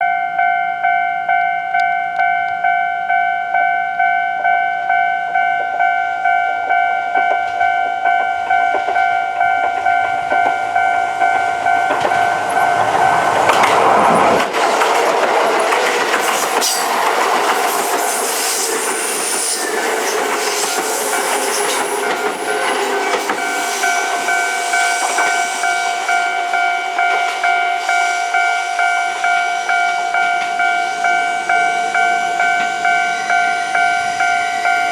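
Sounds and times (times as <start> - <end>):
train rumble and wheel clatter: 4.1 - 34.9.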